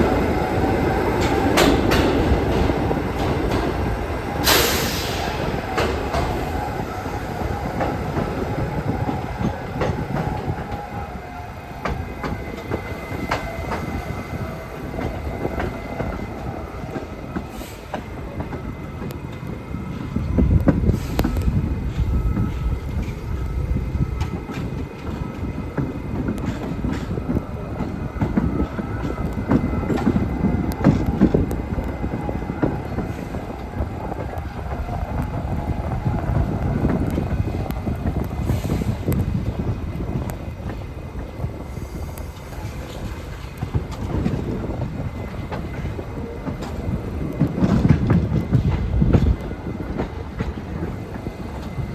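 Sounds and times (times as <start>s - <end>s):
subway train rumbling on rails: 0.0s - 51.9s.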